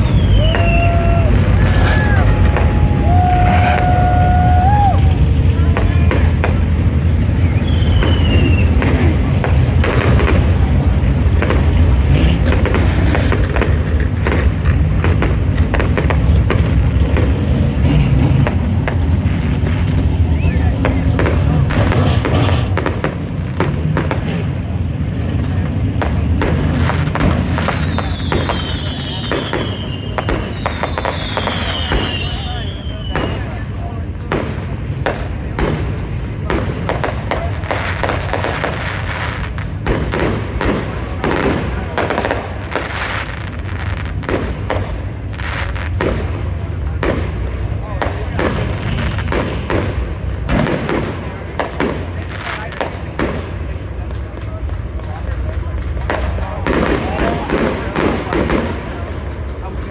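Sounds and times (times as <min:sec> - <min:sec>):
fireworks bangs and pops: 0:00.0 - 0:59.9
race car engines rumbling: 0:00.0 - 0:59.9.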